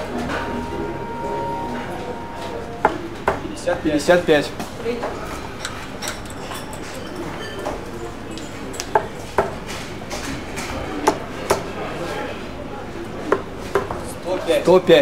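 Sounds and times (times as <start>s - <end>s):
murmur of room chatter: 0.0s - 15.0s.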